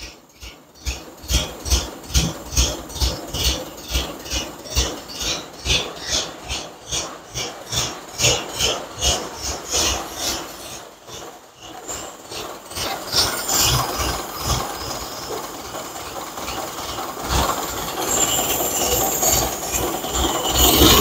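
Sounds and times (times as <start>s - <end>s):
car engine idling unevenly: 0.0s - 21.0s.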